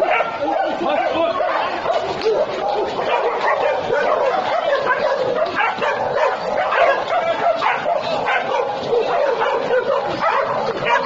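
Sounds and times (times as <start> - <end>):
dogs fighting barking and yelping: 0.0 - 11.0.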